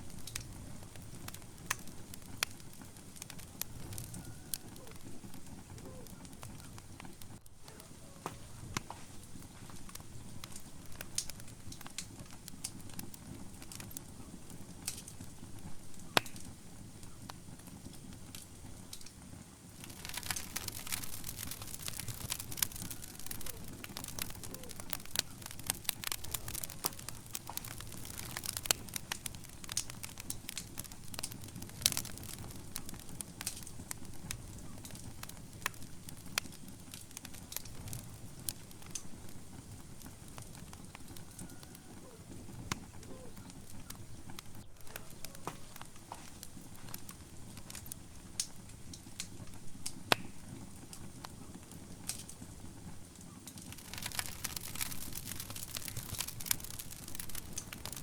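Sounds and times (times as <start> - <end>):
rumble of flame: 0.0 - 58.0
wood fire crackling: 0.0 - 58.0.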